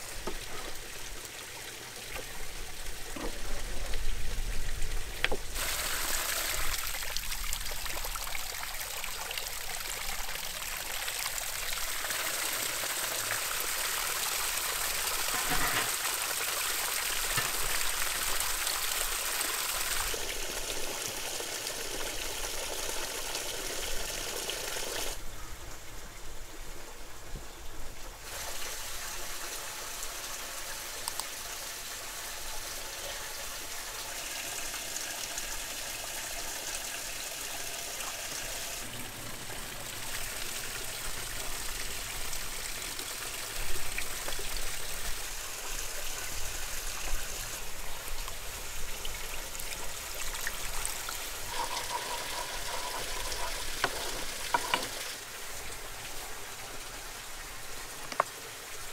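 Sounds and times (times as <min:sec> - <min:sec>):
water trickling: 0:00.0 - 0:25.3, 0:28.2 - 0:58.9.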